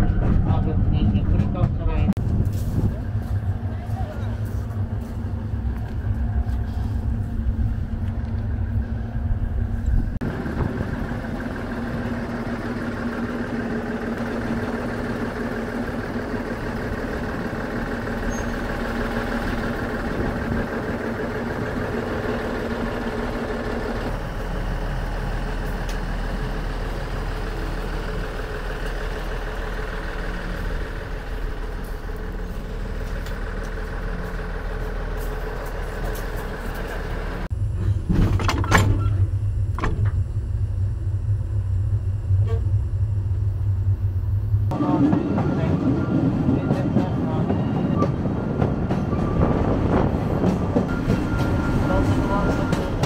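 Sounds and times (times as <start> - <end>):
electric locomotive humming: 0.0 - 53.0
train rumbling: 0.0 - 53.0.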